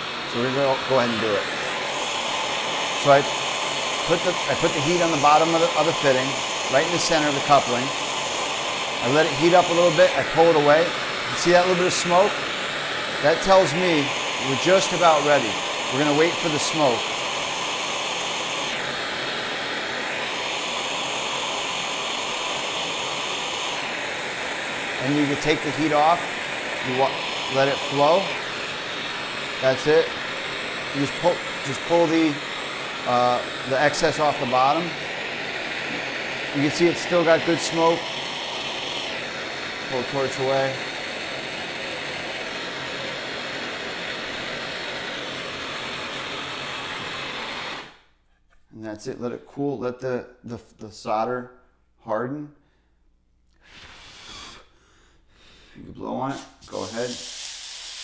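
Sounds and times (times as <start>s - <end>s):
gas torch hissing roar: 0.0s - 48.0s, 53.6s - 55.6s, 56.2s - 58.0s.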